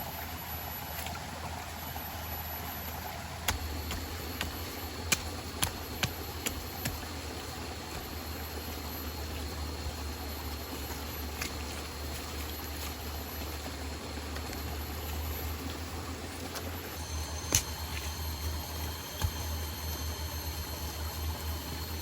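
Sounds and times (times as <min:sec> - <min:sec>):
forest stream rushing: 0:00.1 - 0:19.4.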